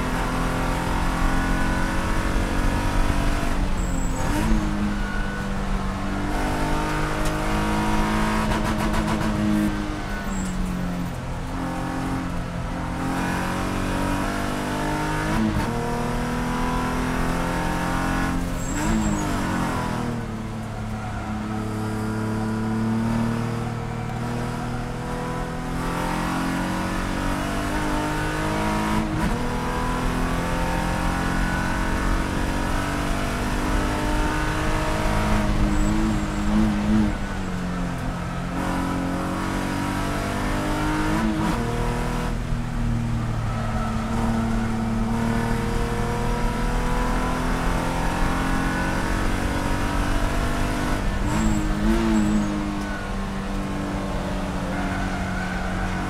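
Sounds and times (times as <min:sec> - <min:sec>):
race car engine revving: 0:00.0 - 0:10.5, 0:11.4 - 0:56.0.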